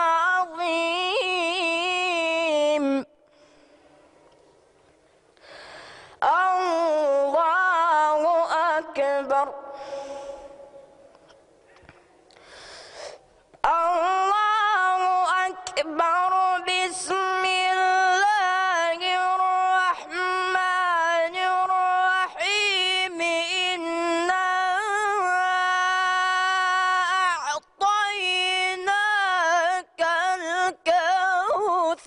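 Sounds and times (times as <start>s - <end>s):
boy reciting melodically: 0.0s - 3.8s, 6.1s - 11.1s, 13.6s - 32.0s.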